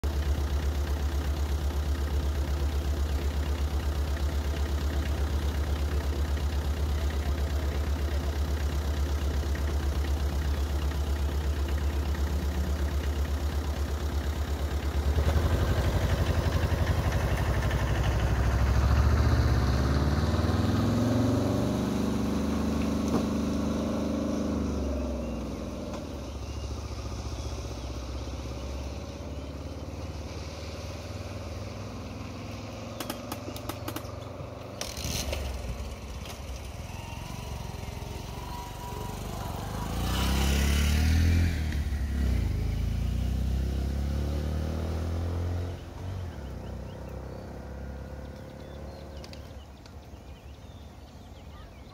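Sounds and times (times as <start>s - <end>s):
vehicle engine idling: 0.0s - 51.9s
vehicle revving and pulling away: 0.0s - 51.9s.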